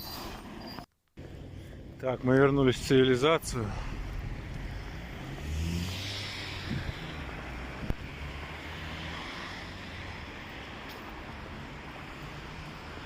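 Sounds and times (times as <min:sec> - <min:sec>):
low rumble of traffic: 0:00.0 - 0:13.0
car passing: 0:01.2 - 0:13.0.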